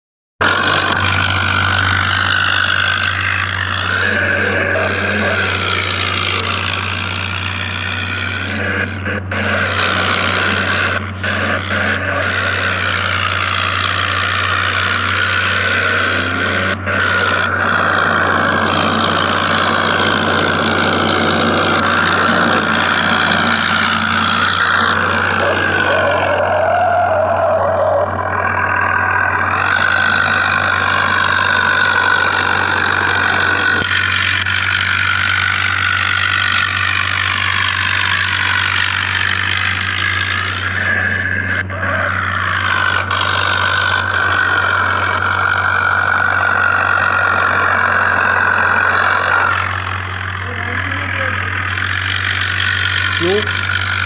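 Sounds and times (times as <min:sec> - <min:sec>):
vehicle engine idling: 0:00.4 - 0:54.0.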